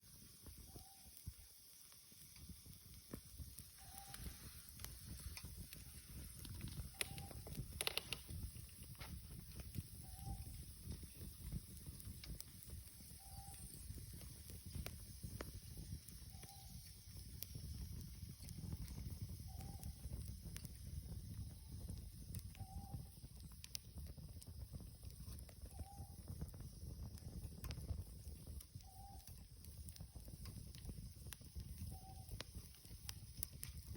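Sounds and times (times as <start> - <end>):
campfire crackling and popping: 0.0 - 33.9
low fire rumble: 0.0 - 33.9.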